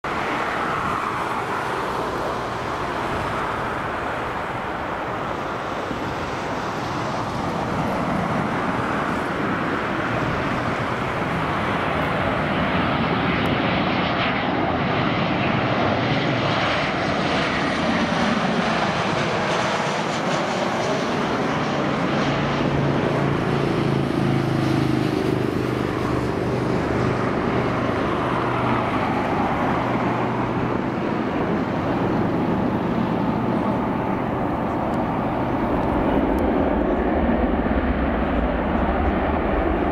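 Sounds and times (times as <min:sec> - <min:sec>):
jet engine rush: 0:00.0 - 0:39.9.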